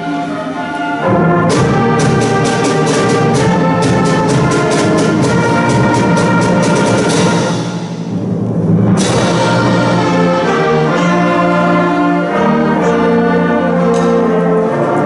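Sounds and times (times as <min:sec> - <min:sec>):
brass and woodwinds holding chords: 0:00.0 - 0:15.0
percussion striking steady rhythm: 0:00.0 - 0:15.0.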